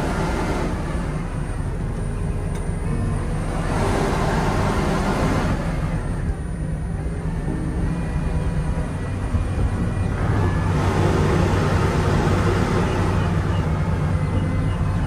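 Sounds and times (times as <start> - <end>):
boat engines idling: 0.0 - 15.0.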